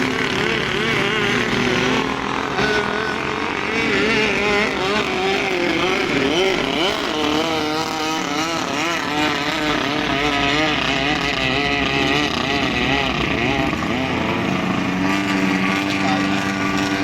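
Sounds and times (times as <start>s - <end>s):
boat engine running hard: 0.0s - 17.0s.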